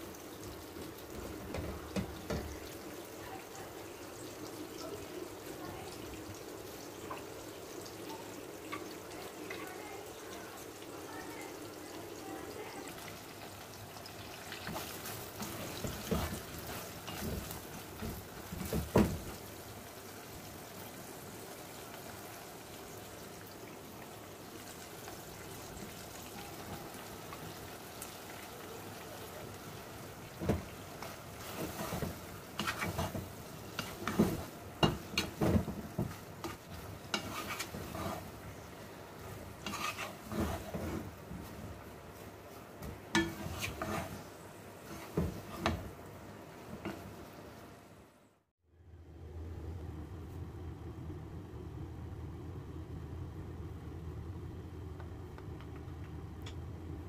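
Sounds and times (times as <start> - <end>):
food sizzling in oil: 0.0 - 47.8.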